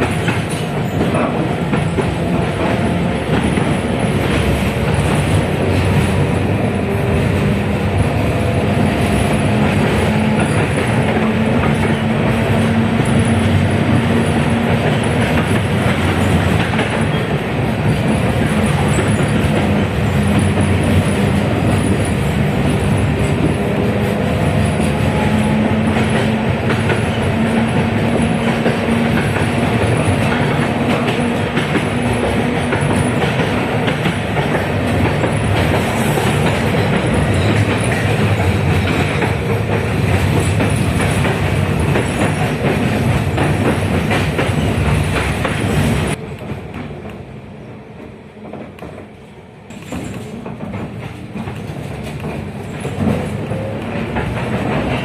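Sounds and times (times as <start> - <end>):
tram rolling noise: 0.0 - 55.0.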